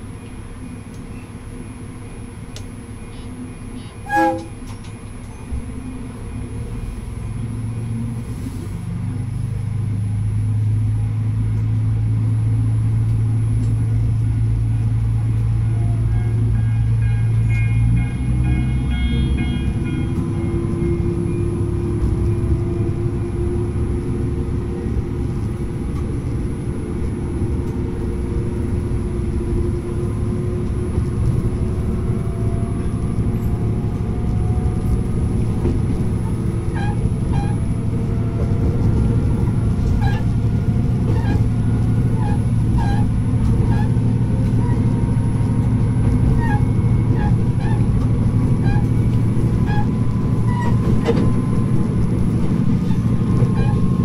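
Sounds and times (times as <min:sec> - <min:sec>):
diesel railcar engine: 0:00.0 - 0:54.0.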